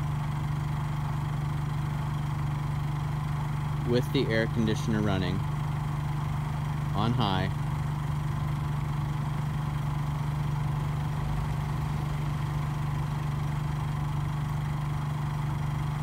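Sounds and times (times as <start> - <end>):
generator humming: 0.0 - 16.0.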